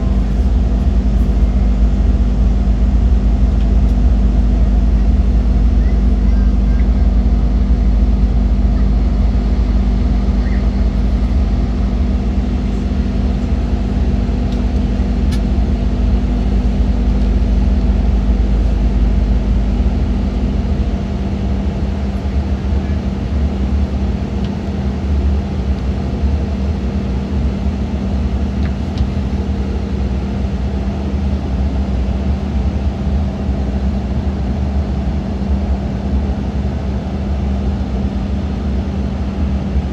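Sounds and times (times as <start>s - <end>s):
jet engine hum: 0.0s - 34.8s
airflow rumble in plane cabin: 0.0s - 39.9s.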